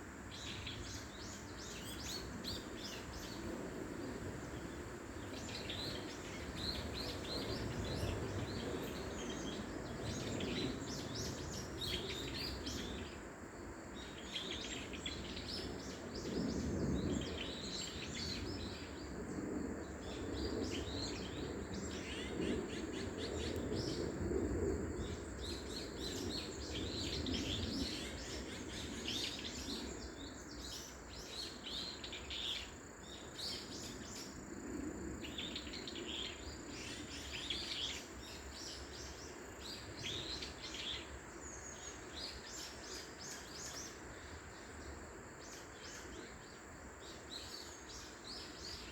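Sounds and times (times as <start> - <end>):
songbirds chirping: 0.3 - 48.9.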